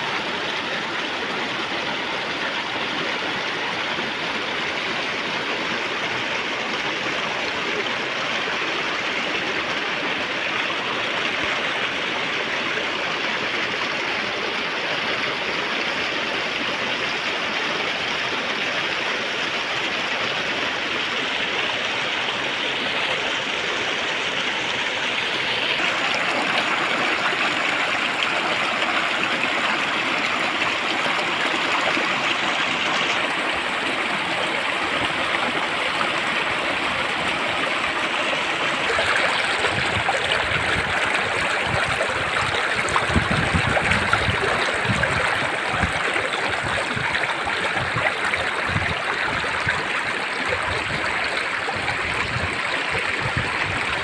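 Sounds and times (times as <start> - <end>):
stream splashing over rocks: 0.0 - 54.0.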